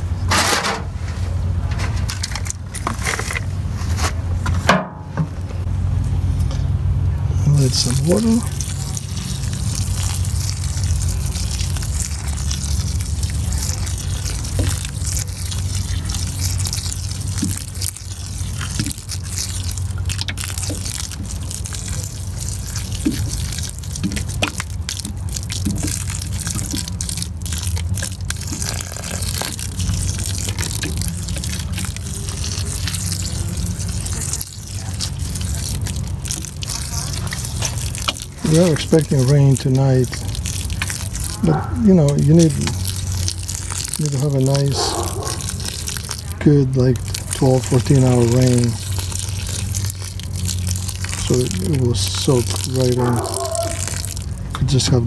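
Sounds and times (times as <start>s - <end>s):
water pouring onto soil: 7.3s - 55.0s.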